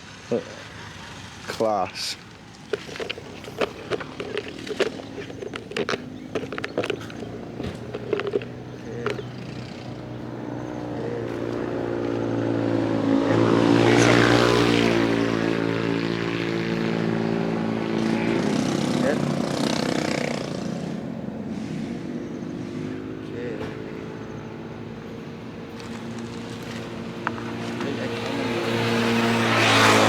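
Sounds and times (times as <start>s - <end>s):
vehicle engine passing: 0.0s - 30.0s.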